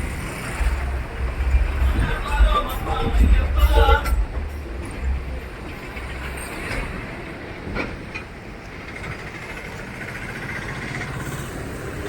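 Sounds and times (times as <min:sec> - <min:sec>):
vehicle and road noise: 0:00.0 - 0:12.0.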